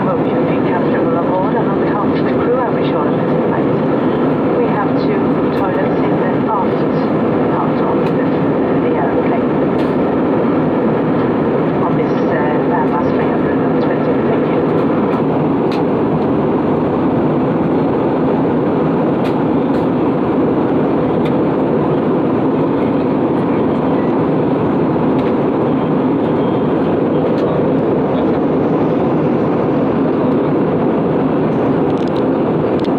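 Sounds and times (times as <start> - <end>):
airliner cabin rumble: 0.0 - 32.9.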